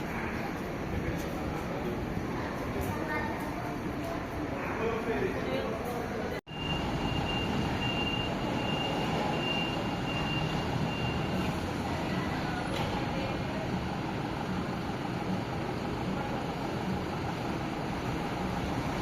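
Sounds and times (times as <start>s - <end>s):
metro train running: 0.0s - 19.0s.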